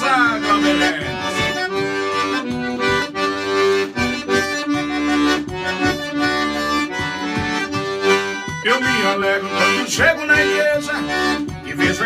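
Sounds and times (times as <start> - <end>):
piano accordion playing: 0.0 - 12.0.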